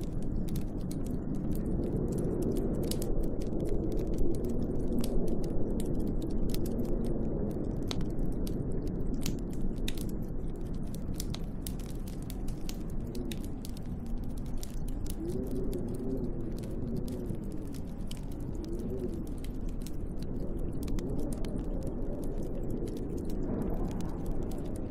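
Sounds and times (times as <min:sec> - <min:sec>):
storm wind howling: 0:00.0 - 0:24.9
wood fire crackling and popping: 0:00.0 - 0:24.9.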